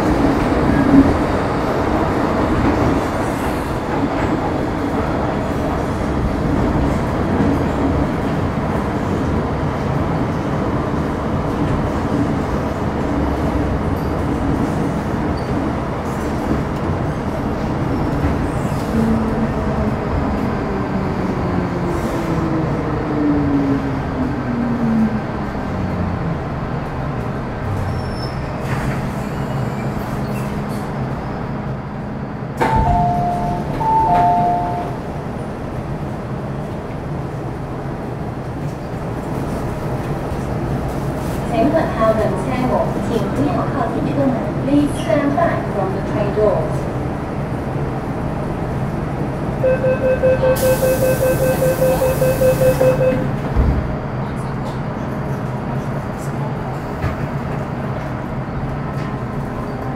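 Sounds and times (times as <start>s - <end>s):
train wheel and running noise: 0.0s - 59.9s.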